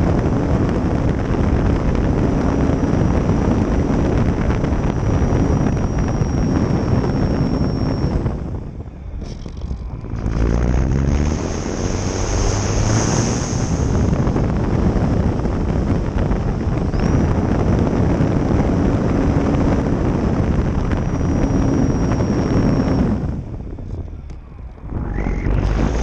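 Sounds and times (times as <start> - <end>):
electric motor and propeller whine: 0.0 - 26.0
wind rushing over microphone: 0.0 - 26.0.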